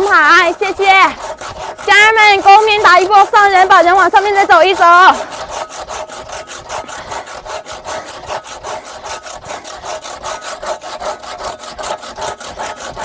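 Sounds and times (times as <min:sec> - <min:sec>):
hand saw cutting wood: 0:00.0 - 0:13.0
ringing saw blade: 0:00.0 - 0:13.0.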